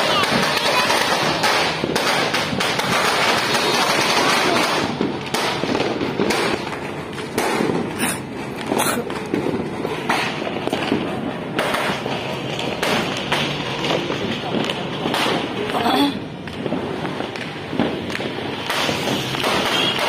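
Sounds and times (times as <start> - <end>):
firecrackers banging: 0.0 - 20.0.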